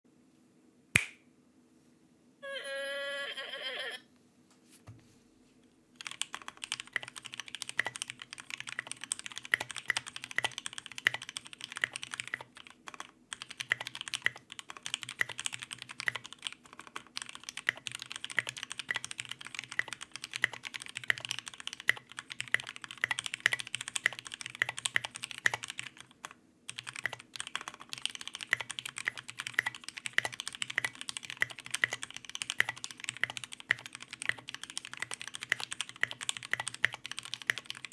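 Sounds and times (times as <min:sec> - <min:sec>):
mechanical keyboard typing: 0:06.0 - 0:37.9.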